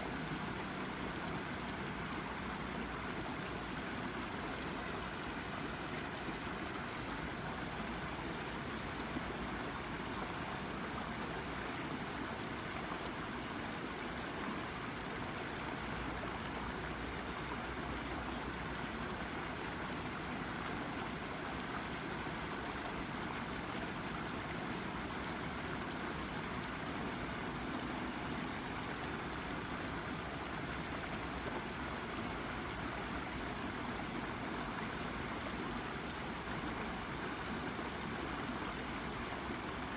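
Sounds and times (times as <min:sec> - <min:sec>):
brook babbling over rock: 0:00.0 - 0:39.9.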